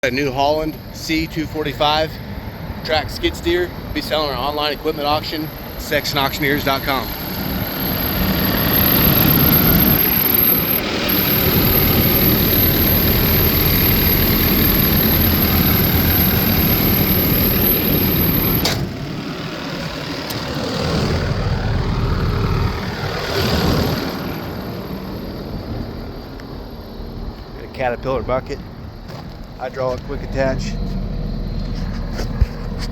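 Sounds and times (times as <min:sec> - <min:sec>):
diesel engine running: 0:00.1 - 0:23.2, 0:24.1 - 0:32.9.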